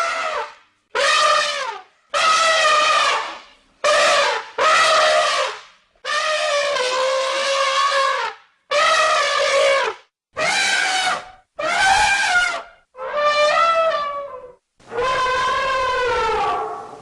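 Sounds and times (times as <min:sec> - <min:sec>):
elephant trumpeting: 0:00.0 - 0:17.0.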